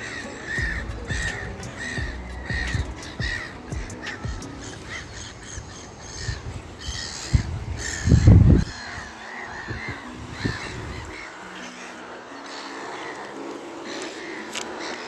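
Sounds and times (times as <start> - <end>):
birds harsh calls: 0.0 - 15.0.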